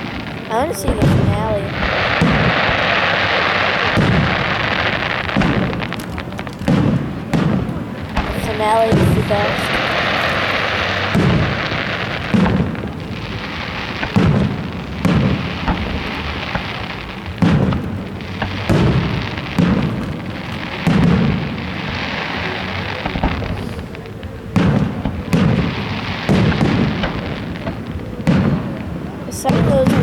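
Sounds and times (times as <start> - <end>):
fireworks shells bursting: 0.0 - 30.0.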